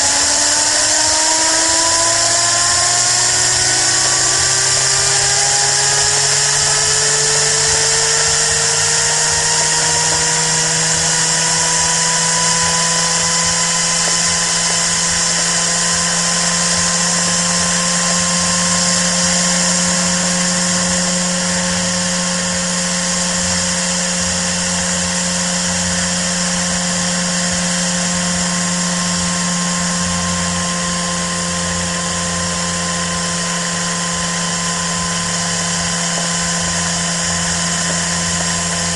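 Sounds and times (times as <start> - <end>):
steady low hum: 0.0 - 38.9
steam hissing: 0.0 - 38.9
turbine whine: 0.0 - 38.9.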